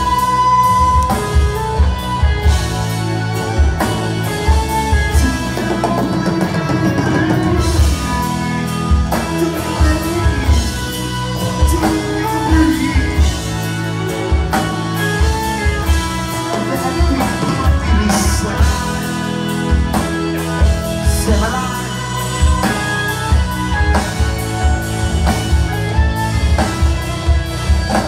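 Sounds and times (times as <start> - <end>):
bass guitar: 0.0 - 28.0
drum kit beat: 0.0 - 28.0
electric guitar: 0.0 - 28.0.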